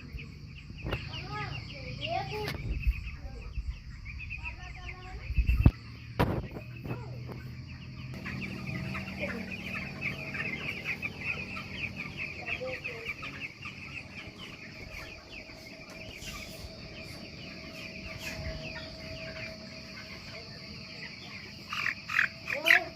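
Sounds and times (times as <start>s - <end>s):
chickens peeping and chirping: 0.0s - 22.9s.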